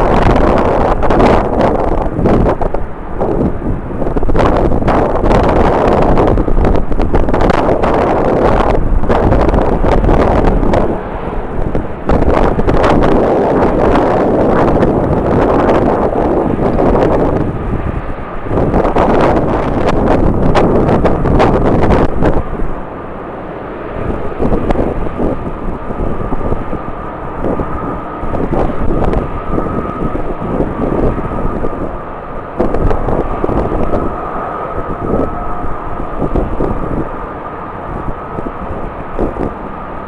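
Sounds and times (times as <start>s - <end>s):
jet engines whining: 0.0s - 40.0s
wind buffeting microphone: 0.0s - 40.0s.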